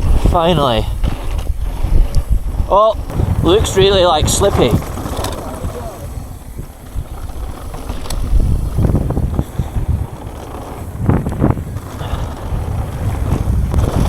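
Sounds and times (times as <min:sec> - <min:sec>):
bike jolting over bumps: 0:00.0 - 0:14.0
bike tyre rumble on dirt: 0:00.0 - 0:14.0
wind rushing over microphone: 0:00.0 - 0:14.0.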